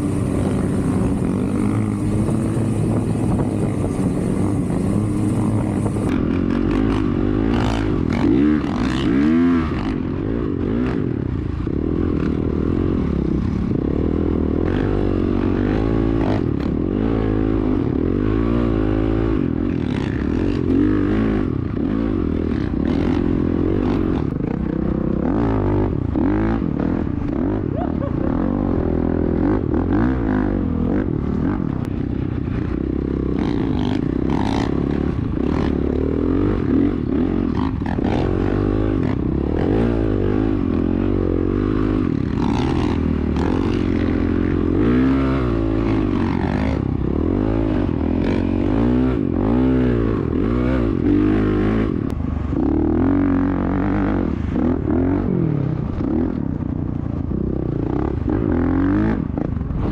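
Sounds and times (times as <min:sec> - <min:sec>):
dirt bike engine revving: 0:00.0 - 0:11.2, 0:13.8 - 0:56.4.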